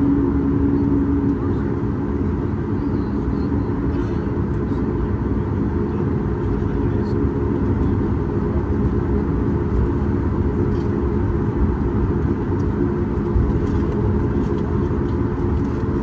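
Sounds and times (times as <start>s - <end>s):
jet engine deep rumble: 0.0s - 16.0s.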